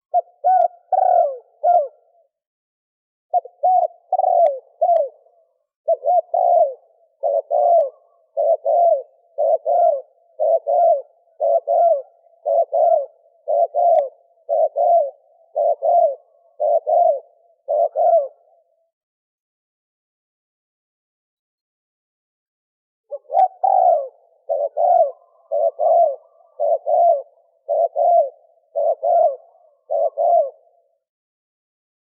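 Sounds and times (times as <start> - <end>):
dove cooing: 0.0 - 2.3, 3.3 - 18.9, 23.1 - 31.0.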